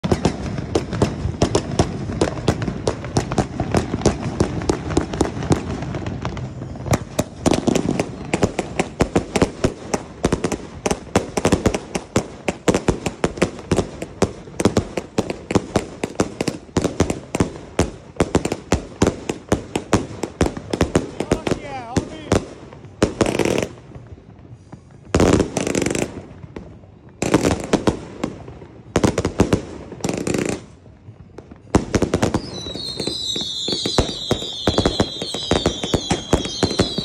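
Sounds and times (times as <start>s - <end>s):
firework launch bangs and bursts: 0.0s - 30.9s, 31.6s - 37.0s.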